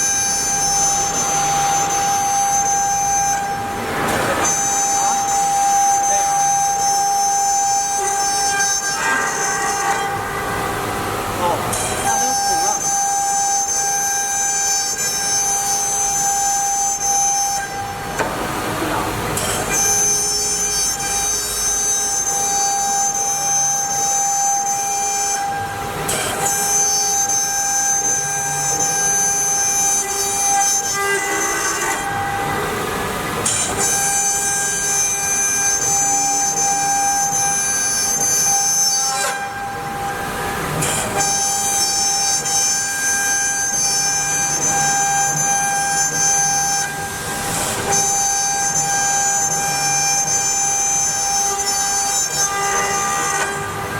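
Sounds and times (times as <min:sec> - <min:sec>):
router spindle whine cutting wood: 0:00.0 - 0:53.9.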